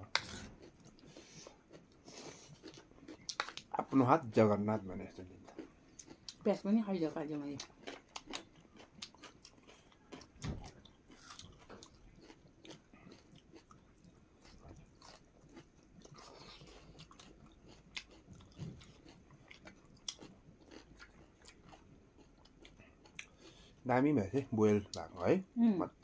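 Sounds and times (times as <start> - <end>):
chewing and biting food: 0.0 - 4.0, 5.0 - 6.4, 7.6 - 23.8.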